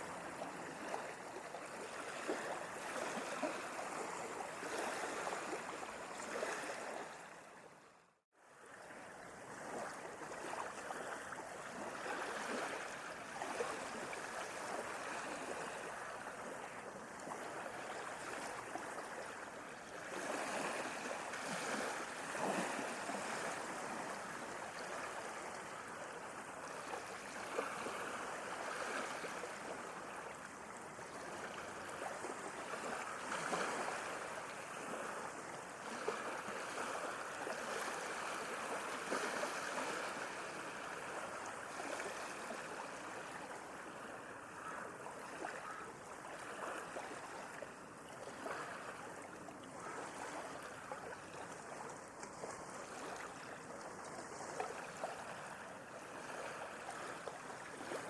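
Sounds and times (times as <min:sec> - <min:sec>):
small water splashes: 0:00.0 - 0:07.4, 0:08.6 - 0:58.0
sea waves lapping at shore: 0:00.0 - 0:58.0.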